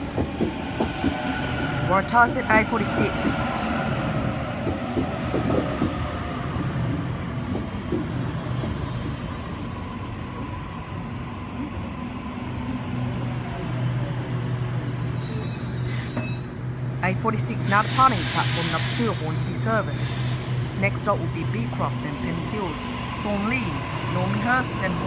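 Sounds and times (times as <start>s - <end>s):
electric train low hum: 0.0s - 25.0s.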